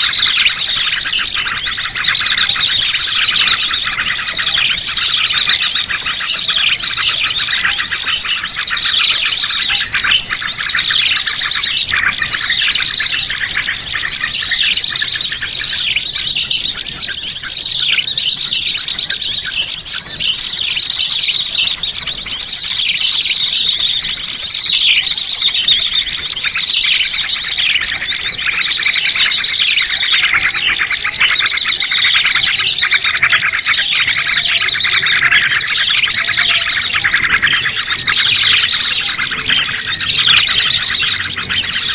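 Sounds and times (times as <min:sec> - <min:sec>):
chorus of birds chirping: 0:00.0 - 0:41.9.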